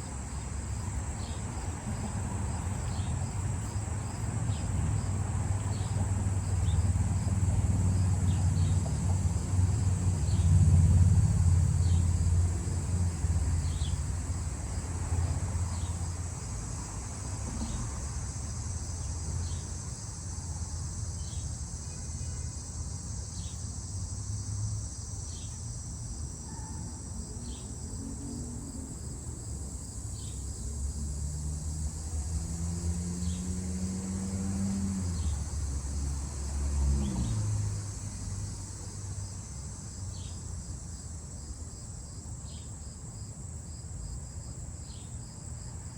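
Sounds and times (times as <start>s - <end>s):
passing road traffic: 0.0s - 42.5s
insects trilling: 0.0s - 45.9s.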